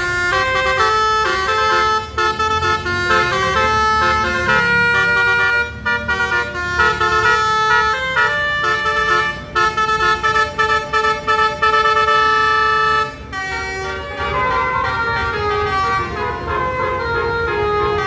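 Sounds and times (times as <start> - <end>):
musical air horn playing a tune: 0.0 - 18.0.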